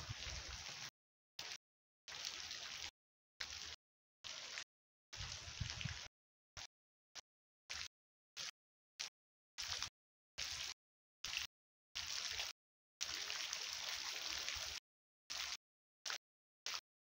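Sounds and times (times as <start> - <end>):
water splashing into a pool: 0.0 - 6.1, 7.7 - 16.8.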